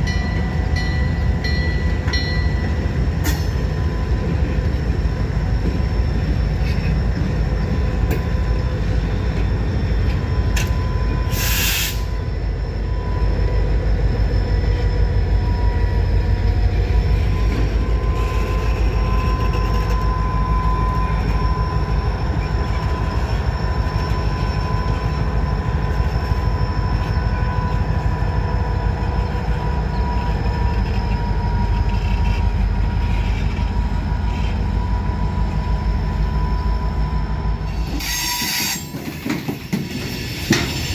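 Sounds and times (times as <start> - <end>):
high wheel squeal: 0.0 - 40.9
train cars rumbling past: 0.0 - 40.9.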